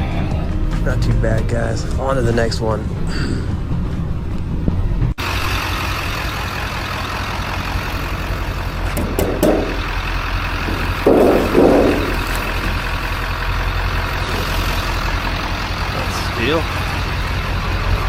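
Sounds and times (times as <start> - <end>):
road noise: 0.0 - 18.0
truck engine hum: 0.0 - 18.0.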